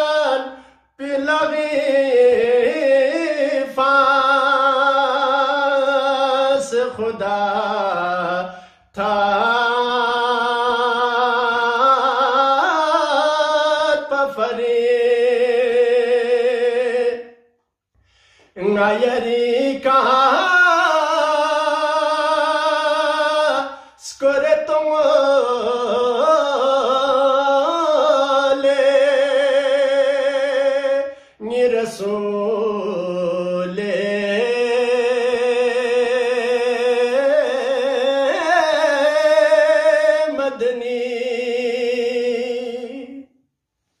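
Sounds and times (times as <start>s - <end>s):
man singing unaccompanied: 0.0s - 17.5s, 18.5s - 43.4s.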